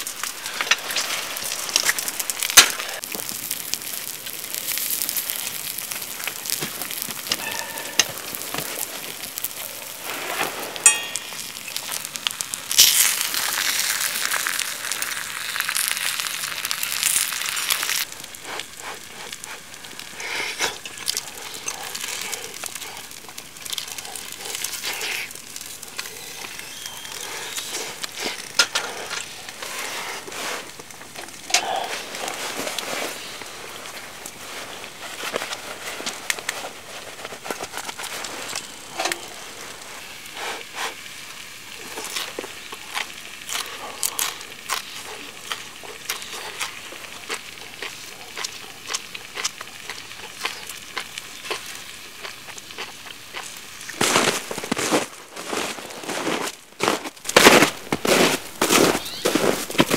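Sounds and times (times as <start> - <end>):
scattered clicks and crackles: 0.0 - 55.2
eggs sizzling in a frying pan: 0.0 - 59.9.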